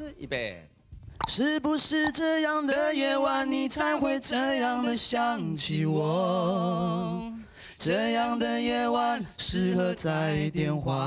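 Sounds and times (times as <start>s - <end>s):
two men singing unaccompanied: 1.2s - 11.0s.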